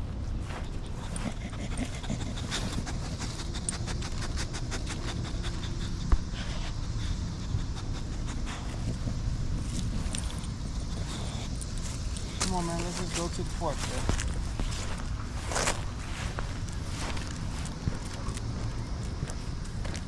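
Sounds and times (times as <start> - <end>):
dog panting: 0.6 - 17.3.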